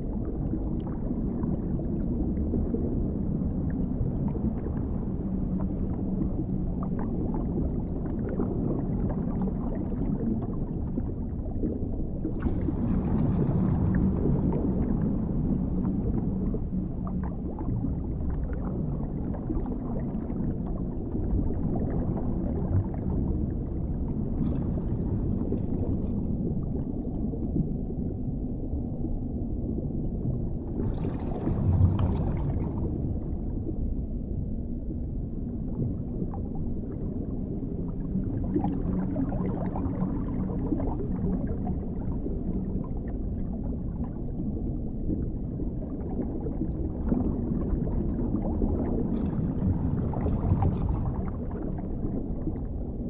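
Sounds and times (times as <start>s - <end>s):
faint water gurgles: 0.0s - 53.0s
underwater rumble: 0.0s - 53.0s.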